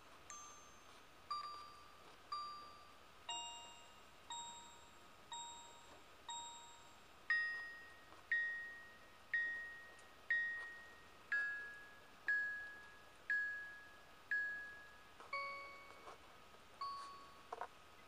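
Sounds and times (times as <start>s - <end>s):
slow bell-like chime music: 0.3s - 16.2s, 16.8s - 17.5s.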